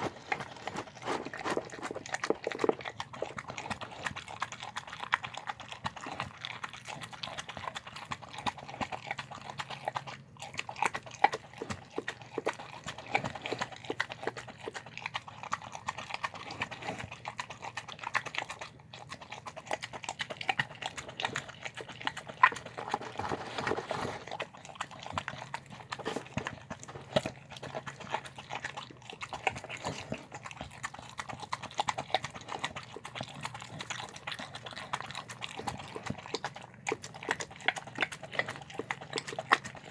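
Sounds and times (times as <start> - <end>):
dog chewing and licking: 0.0 - 39.9.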